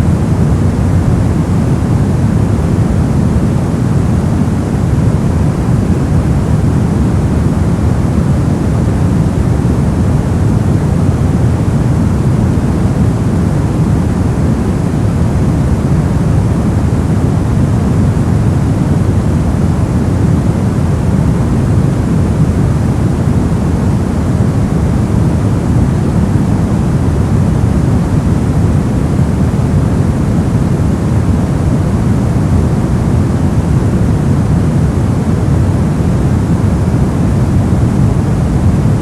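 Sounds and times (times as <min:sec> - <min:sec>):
deep white noise: 0:00.0 - 0:39.0.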